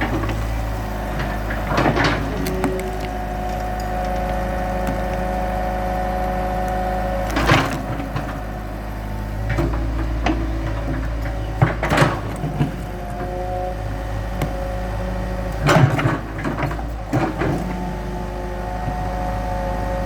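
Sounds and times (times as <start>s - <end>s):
excavator engine whining: 0.0s - 20.0s.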